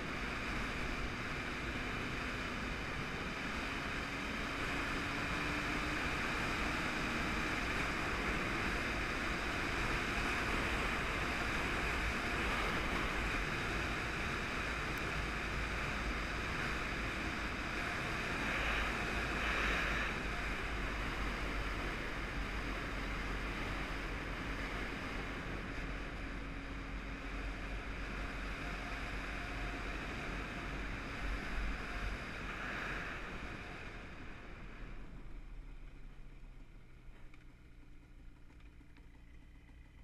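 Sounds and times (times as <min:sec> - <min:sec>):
faint two-stroke motorcycle engine: 0:00.0 - 0:40.0.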